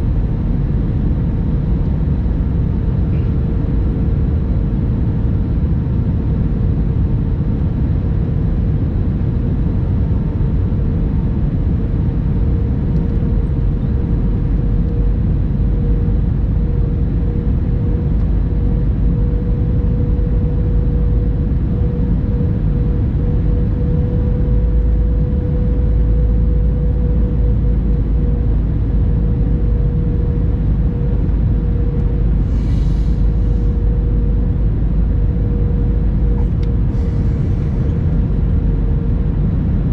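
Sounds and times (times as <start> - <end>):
jet engines and airflow rumbling: 0.0 - 39.9
steady hum tone: 0.0 - 39.9.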